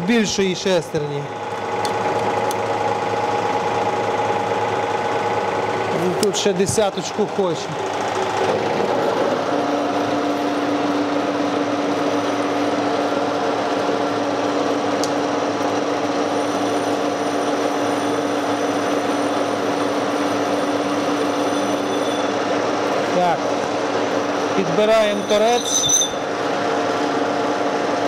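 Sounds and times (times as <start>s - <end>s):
metal lathe humming and whining: 1.2s - 28.0s.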